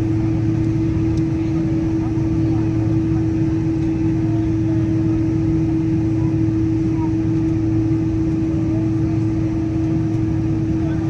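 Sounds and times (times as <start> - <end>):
aircraft engines idling: 0.0 - 11.0.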